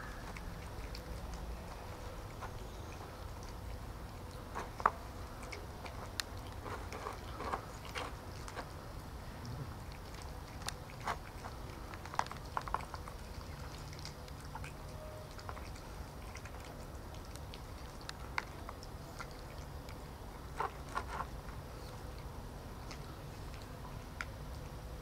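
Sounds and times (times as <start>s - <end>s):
cats chewing wetly: 0.0s - 25.0s
low background hum: 0.0s - 25.0s.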